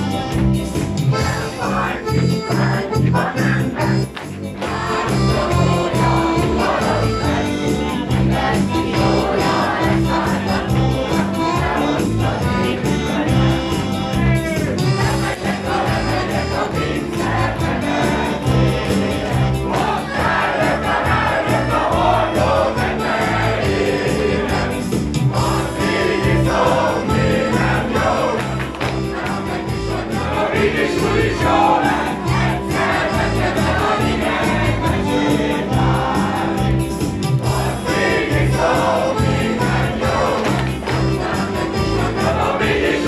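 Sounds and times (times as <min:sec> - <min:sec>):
live band playing folk dance music: 0:00.0 - 0:43.0
group of voices singing: 0:01.1 - 0:43.0.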